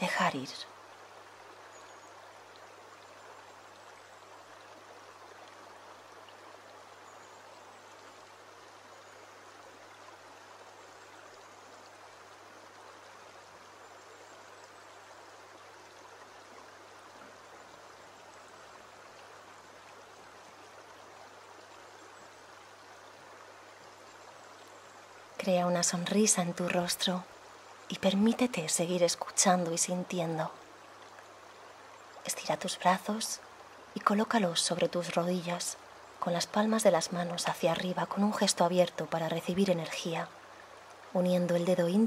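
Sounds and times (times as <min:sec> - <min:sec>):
stream flowing over pebbles: 0:00.0 - 0:42.0.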